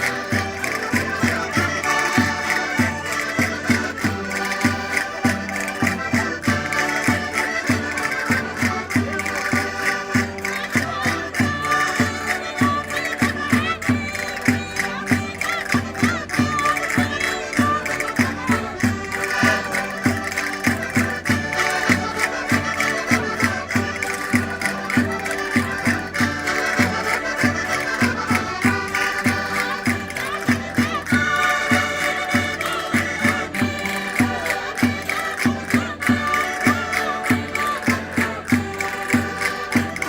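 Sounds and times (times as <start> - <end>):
concertinas playing folk dance tune: 0.0 - 40.0.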